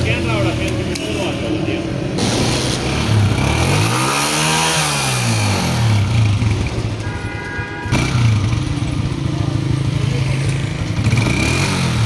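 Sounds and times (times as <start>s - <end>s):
motorcycle engine revving: 0.0s - 7.1s, 7.8s - 12.0s.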